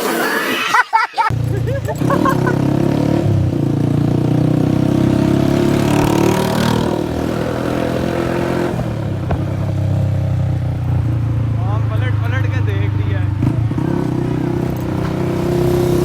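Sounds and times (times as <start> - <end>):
loud motorcycle engine running: 1.3 - 16.0.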